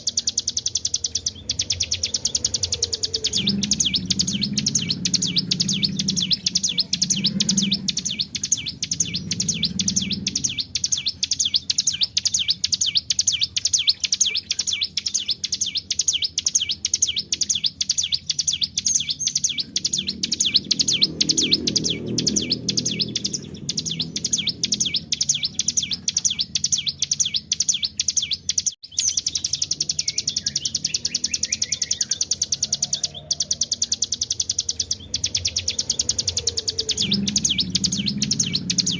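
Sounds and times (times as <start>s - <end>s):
bird song repeated high notes: 0.0s - 38.9s.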